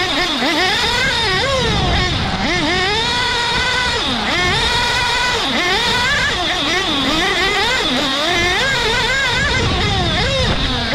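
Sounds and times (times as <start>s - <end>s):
rc car motor revving: 0.0s - 10.9s.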